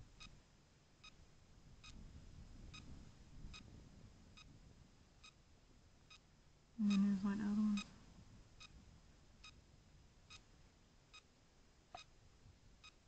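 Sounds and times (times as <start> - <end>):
low rumble of wind or handling: 0.0 - 13.0.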